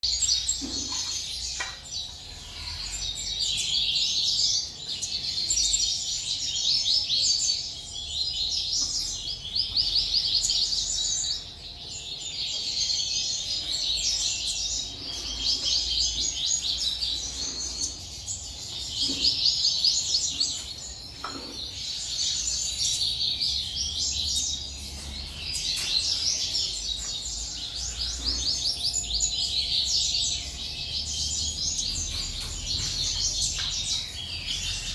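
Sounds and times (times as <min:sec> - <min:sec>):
cage birds chirping and twittering: 0:00.0 - 0:34.9.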